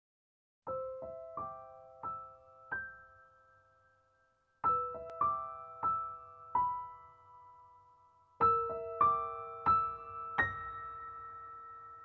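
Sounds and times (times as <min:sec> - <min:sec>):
quiet piano music: 0:00.6 - 0:12.0.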